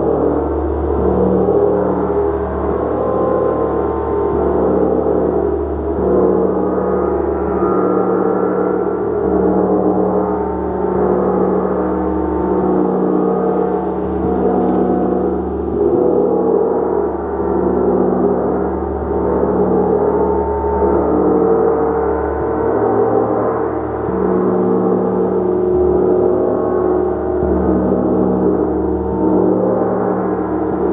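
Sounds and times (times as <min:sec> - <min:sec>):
large gong: 0:00.0 - 0:30.9.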